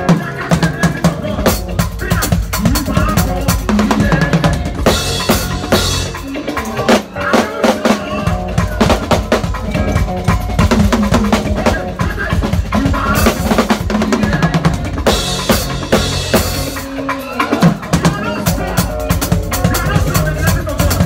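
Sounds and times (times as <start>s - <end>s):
band playing: 0.0s - 21.0s
drum kit playing fast: 0.0s - 21.0s.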